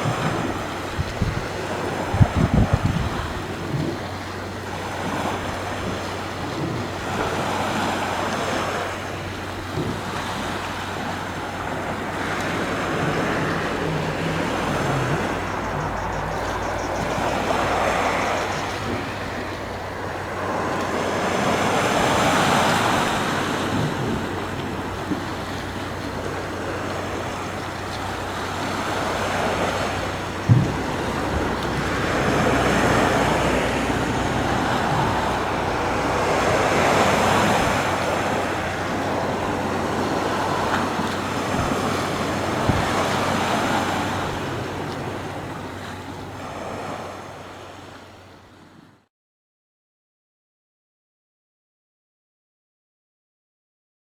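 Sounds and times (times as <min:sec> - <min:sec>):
sea waves breaking on shore: 0:00.0 - 0:49.0.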